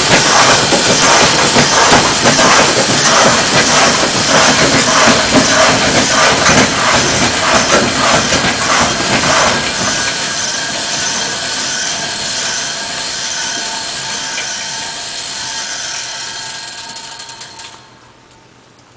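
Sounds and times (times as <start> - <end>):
whirring squealing rush: 0.0 - 17.0
rattling clatter: 0.0 - 17.7.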